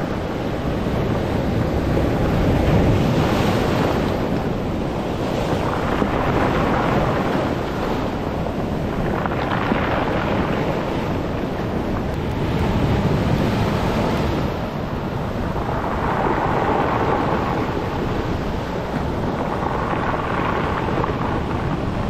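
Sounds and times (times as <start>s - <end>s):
surf washing over pebbles: 0.0s - 22.0s.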